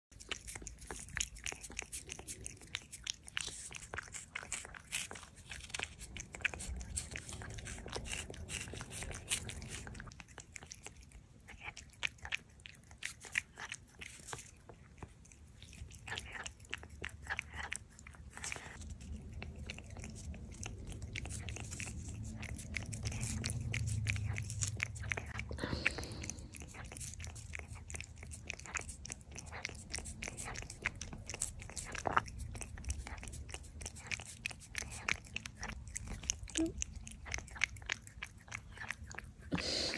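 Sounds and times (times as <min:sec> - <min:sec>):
cat licking wet treat: 0:00.1 - 0:39.9.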